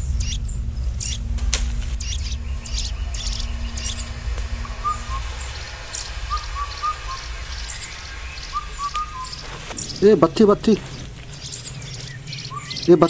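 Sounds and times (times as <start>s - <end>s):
bird whistled note: 0.0s - 10.1s, 11.4s - 12.9s
birds chirping: 0.0s - 13.0s
low rumble: 0.0s - 13.0s.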